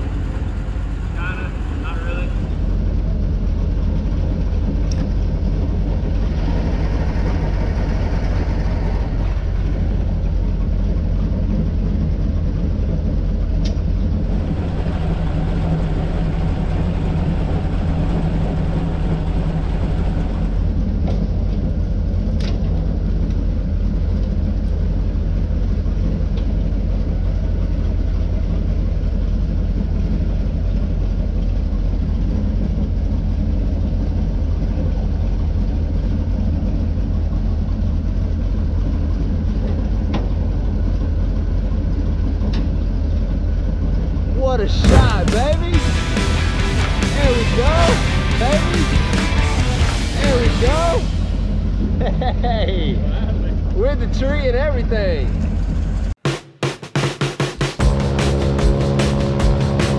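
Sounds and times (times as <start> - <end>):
airboat engine idling: 0.0 - 56.2, 57.8 - 59.9.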